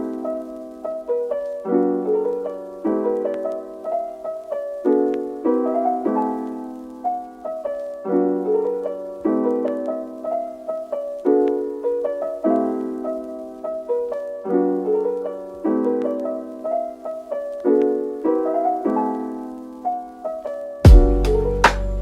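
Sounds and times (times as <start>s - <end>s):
slow gentle piano chords: 0.0s - 22.0s.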